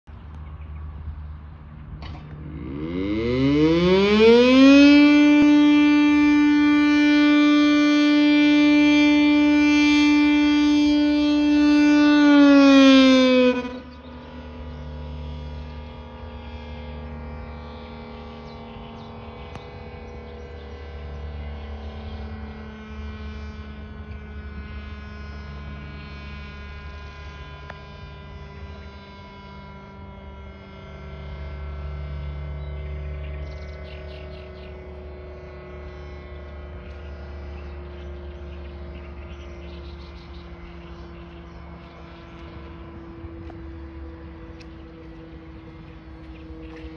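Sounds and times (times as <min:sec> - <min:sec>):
motor siren wailing: 0:00.2 - 0:46.9.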